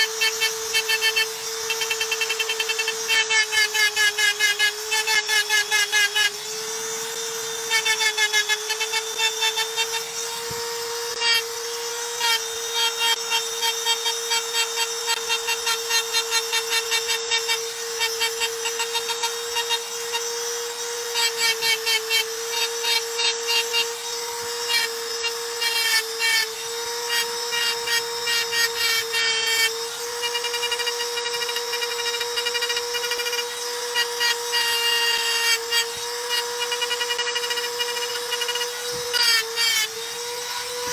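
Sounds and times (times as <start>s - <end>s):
engraving tool motor whine: 0.0s - 40.9s.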